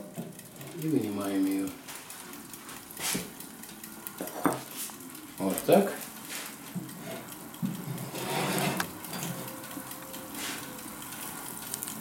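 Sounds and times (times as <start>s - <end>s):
food sizzling and bubbling: 0.0s - 12.0s.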